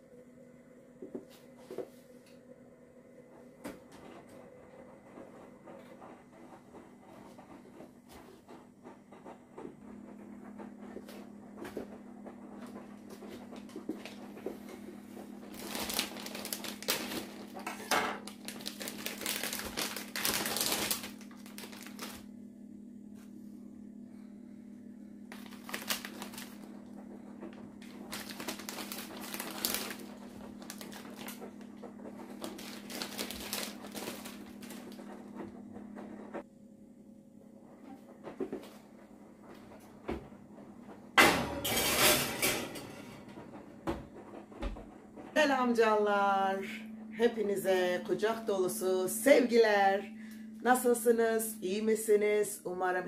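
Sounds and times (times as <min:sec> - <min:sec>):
low appliance hum: 0:00.0 - 0:53.0.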